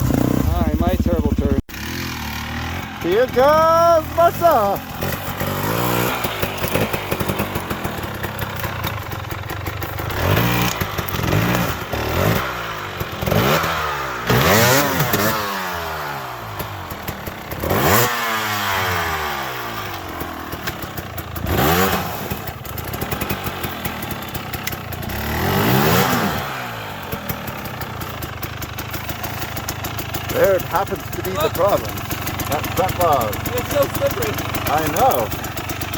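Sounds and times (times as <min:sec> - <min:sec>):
dirt bike engine revving: 0:00.0 - 0:35.9.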